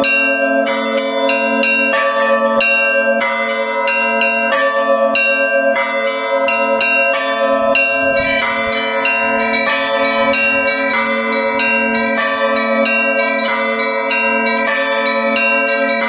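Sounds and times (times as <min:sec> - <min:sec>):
large church bells ringing: 0:00.0 - 0:16.0
small church bells struck quickly: 0:00.0 - 0:16.0.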